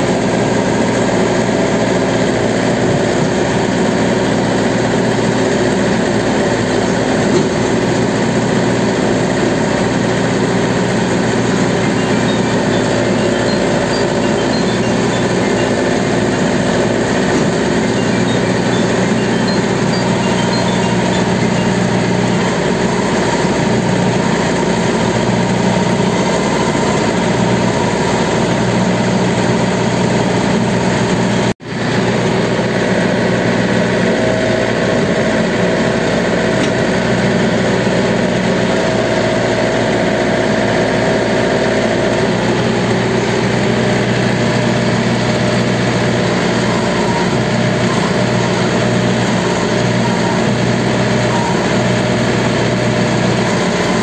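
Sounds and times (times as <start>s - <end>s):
harvester engine running: 0.0s - 54.0s.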